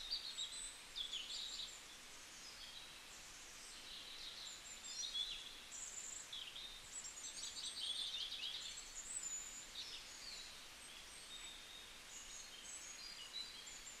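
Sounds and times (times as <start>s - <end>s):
birds chirping and twittering: 0.0s - 14.0s
faint outdoor hiss: 0.0s - 14.0s.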